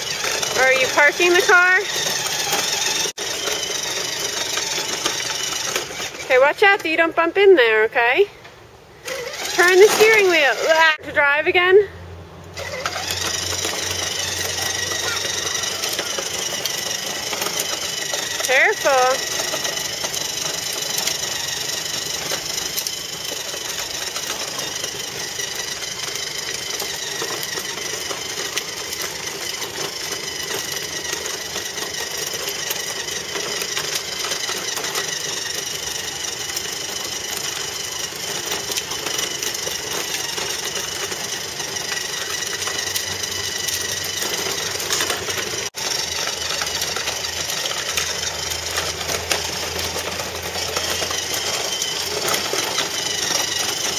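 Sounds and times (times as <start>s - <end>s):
toy car motor whining and rattling: 0.0s - 8.0s, 9.0s - 11.6s, 12.5s - 53.9s.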